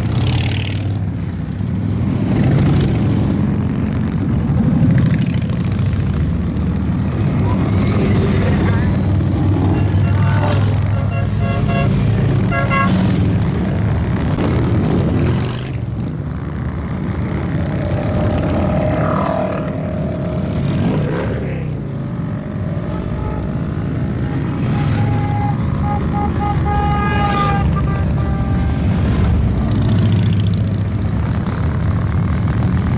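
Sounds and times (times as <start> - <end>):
motorcycles rumbling past: 0.0 - 10.6, 12.0 - 26.7, 28.8 - 32.9.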